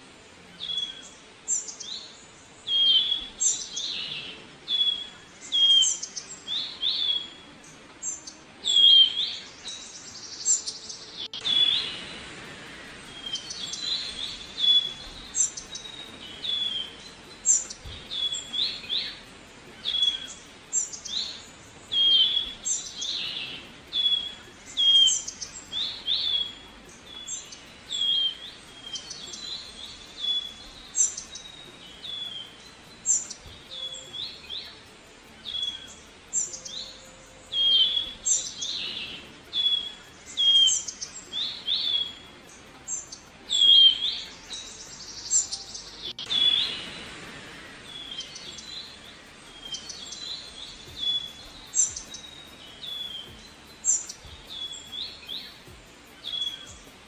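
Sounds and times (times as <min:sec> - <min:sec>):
faint background hiss: 0:00.0 - 0:57.0
songbirds chirping: 0:00.0 - 0:57.0.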